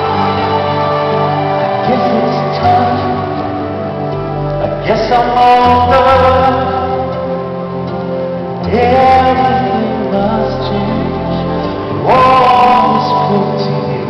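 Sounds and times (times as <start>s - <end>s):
band accompaniment: 0.0s - 14.0s
man singing live: 0.0s - 14.0s.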